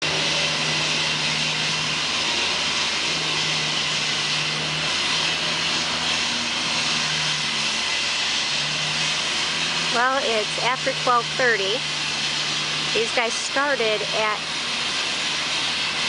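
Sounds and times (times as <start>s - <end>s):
heavy construction machinery rushing: 0.0s - 16.0s
low machinery hum: 0.0s - 16.0s.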